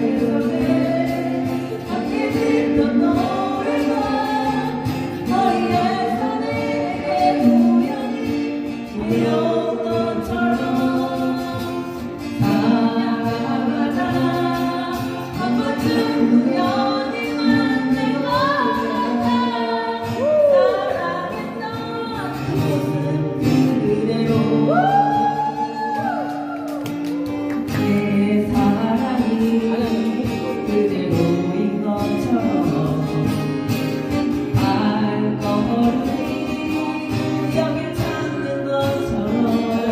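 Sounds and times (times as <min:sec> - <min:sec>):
several voices singing: 0:00.0 - 0:27.0, 0:27.6 - 0:39.9
guitar accompaniment: 0:00.0 - 0:39.9.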